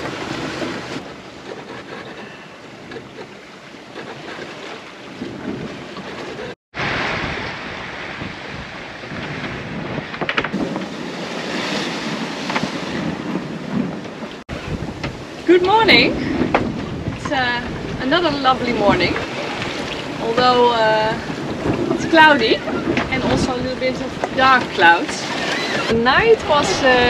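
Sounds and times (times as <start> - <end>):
sea water and waves rushing: 0.0 - 27.0
wind buffeting microphone: 4.6 - 27.0.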